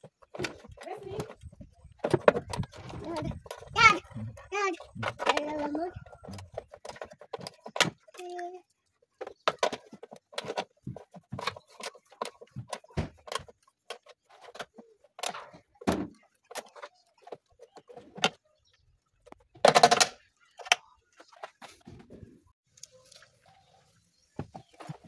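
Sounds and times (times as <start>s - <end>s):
objects being handled: 0.0s - 25.0s.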